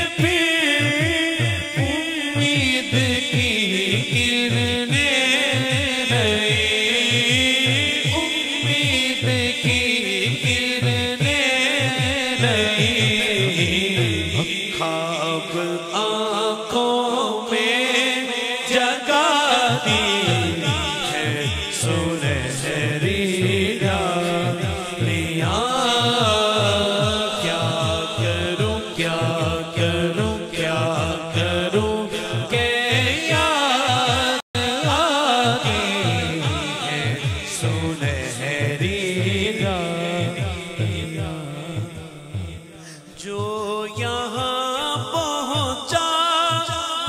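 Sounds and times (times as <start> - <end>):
low rhythmic pulse: 0.0 - 14.8, 19.6 - 33.6, 34.2 - 45.9
man singing: 0.0 - 47.0.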